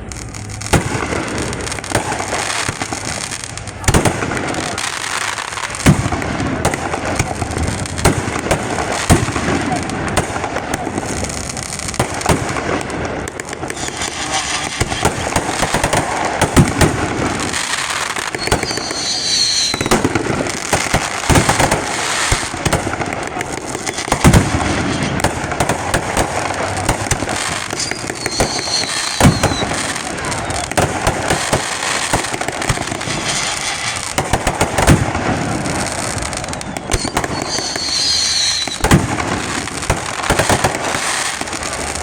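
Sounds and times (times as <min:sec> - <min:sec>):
firework whistling: 0:00.0 - 0:42.0
fireworks banging and crackling: 0:00.0 - 0:42.0.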